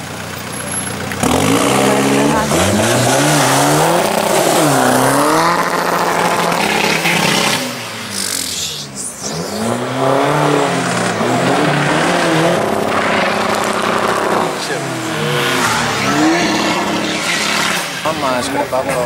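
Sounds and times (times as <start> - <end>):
car engine revving hard: 1.1 - 19.0.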